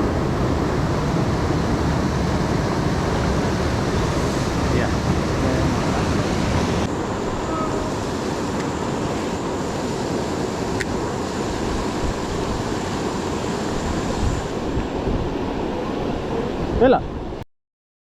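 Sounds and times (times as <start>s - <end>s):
river water rushing over rocks: 0.0s - 14.8s.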